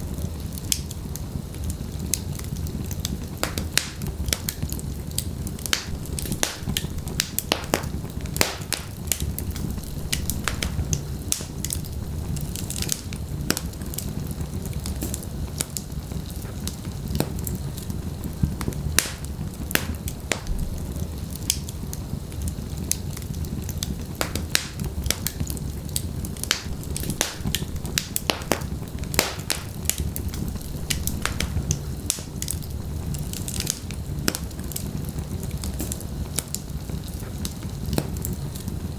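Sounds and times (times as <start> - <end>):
logs crackling and popping: 0.0 - 38.9
low rumble of flame: 0.0 - 38.9.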